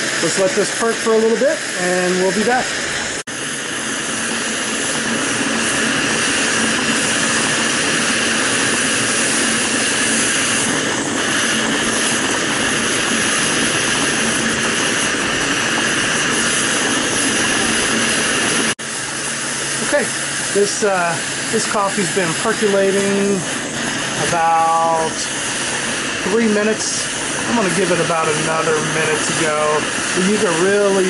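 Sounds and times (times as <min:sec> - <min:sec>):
camping stove burner hissing roar: 0:00.0 - 0:31.0.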